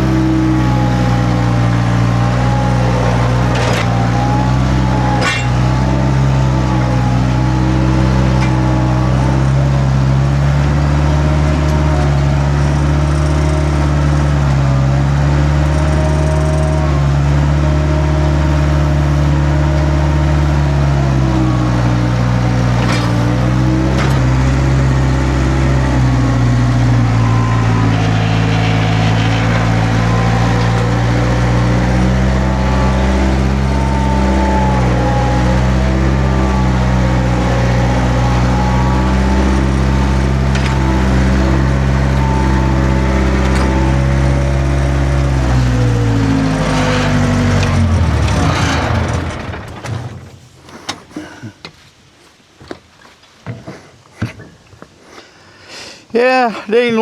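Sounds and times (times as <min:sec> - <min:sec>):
skid steer engine running: 0:00.0 - 0:51.3.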